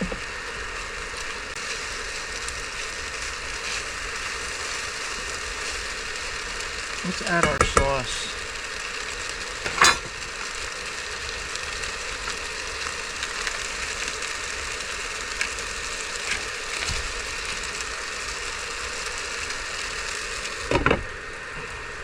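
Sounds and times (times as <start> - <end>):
stir fry sizzling in a skillet: 0.0 - 22.0.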